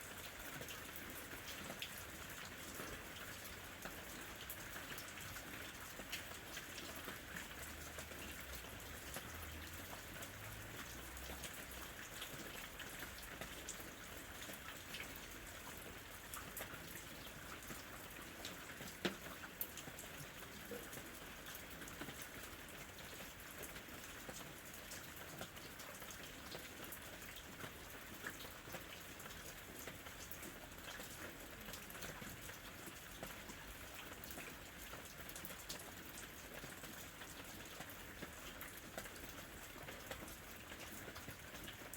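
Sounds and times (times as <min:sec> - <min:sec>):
soft rain falling: 0:00.0 - 0:41.9
raindrops tapping on a surface: 0:00.1 - 0:41.9.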